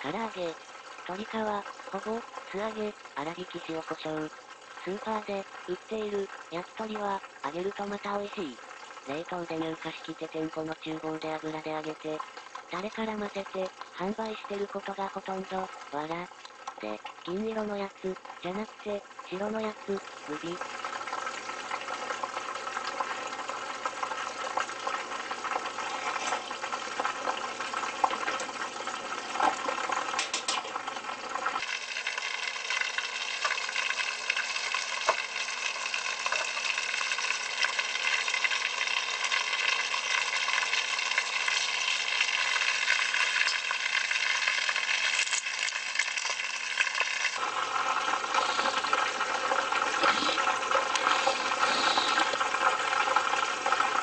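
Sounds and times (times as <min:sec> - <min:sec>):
oil sizzling and crackling: 0:00.0 - 0:54.0.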